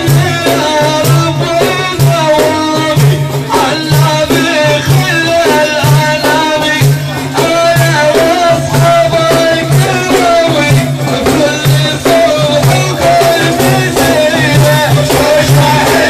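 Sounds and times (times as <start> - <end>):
hand drums beating: 0.0 - 16.0.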